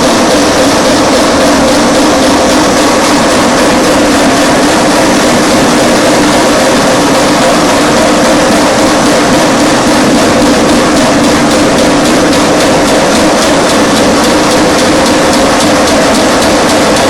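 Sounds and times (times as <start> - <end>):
press machine drone: 0.0 - 17.0.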